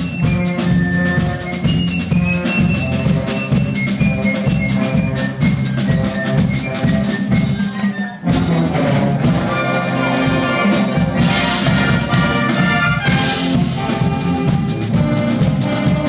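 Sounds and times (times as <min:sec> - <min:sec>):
drums: 0:00.0 - 0:16.0
wind band playing brass music: 0:00.0 - 0:16.0.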